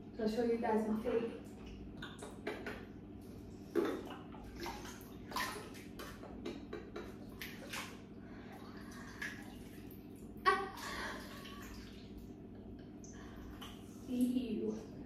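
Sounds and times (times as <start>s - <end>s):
drips and slops: 1.3s - 14.9s.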